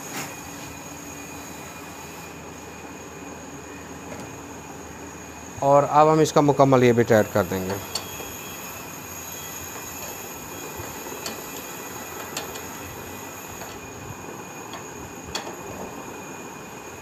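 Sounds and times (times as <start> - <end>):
background hiss with high whine: 0.0 - 17.0.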